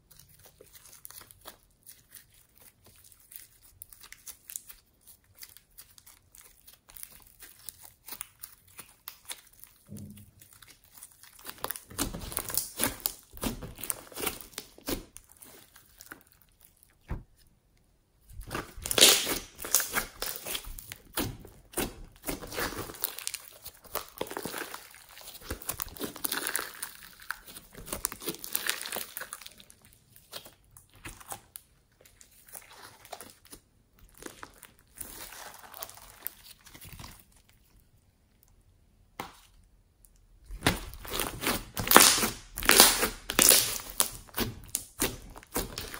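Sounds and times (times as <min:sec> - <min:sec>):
slime crackling and tearing: 0:00.0 - 0:17.5, 0:18.3 - 0:37.9, 0:40.4 - 0:45.9.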